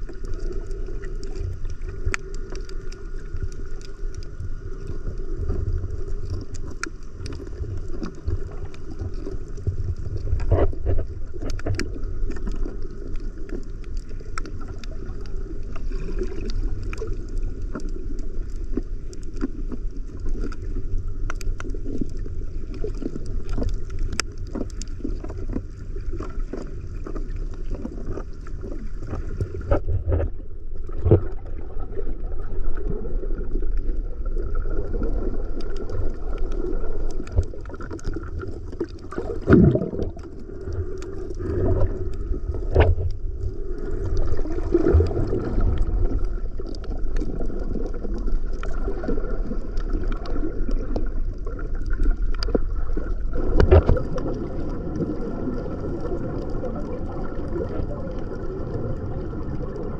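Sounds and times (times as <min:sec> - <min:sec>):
muffled rumble of moving water: 0:00.0 - 0:59.9
small clicks and crackles: 0:00.0 - 0:59.9.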